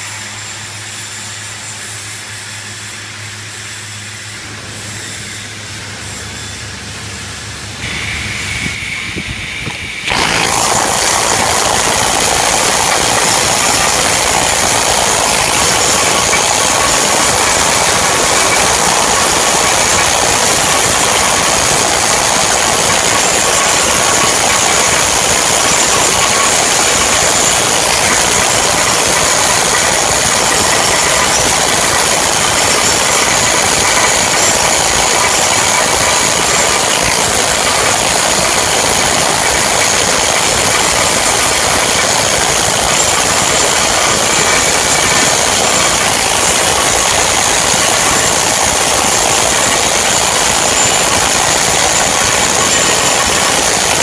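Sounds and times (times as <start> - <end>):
welding arc hissing: 7.8 - 54.0.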